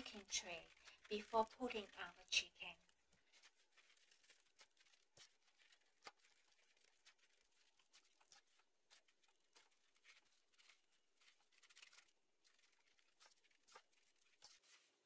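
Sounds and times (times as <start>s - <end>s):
gloved hands scraping paste: 0.0s - 15.0s.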